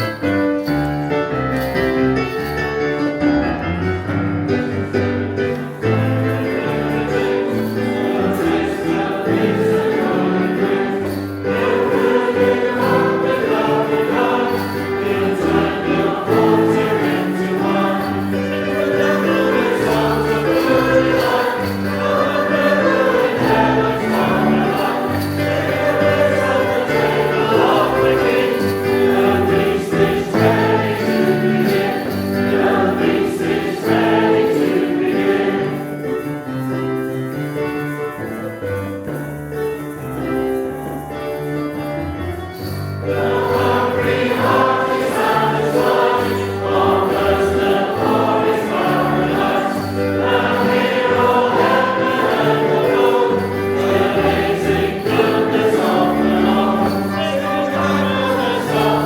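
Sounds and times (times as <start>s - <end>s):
congregation singing a hymn: 0.0s - 2.4s, 3.6s - 37.1s, 41.8s - 59.0s
instrumental accompaniment: 0.0s - 59.0s.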